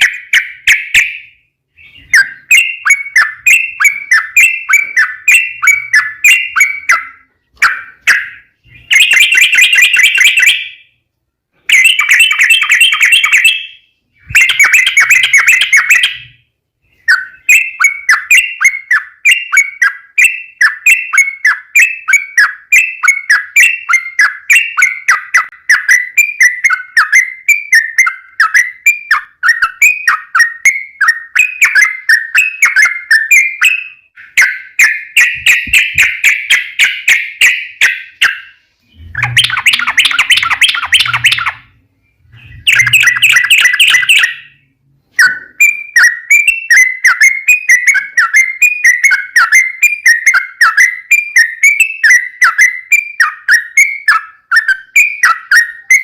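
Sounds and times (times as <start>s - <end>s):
bird chattering song: 0.0s - 11.0s, 11.6s - 56.0s.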